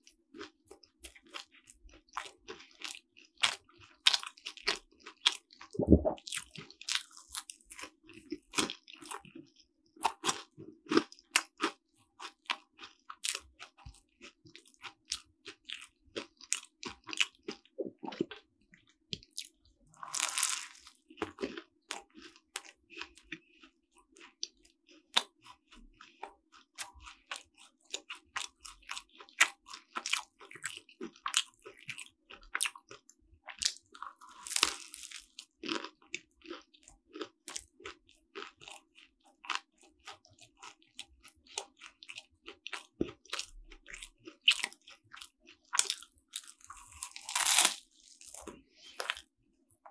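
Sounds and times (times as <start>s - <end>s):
chewing crisp pastry: 0.0s - 49.9s.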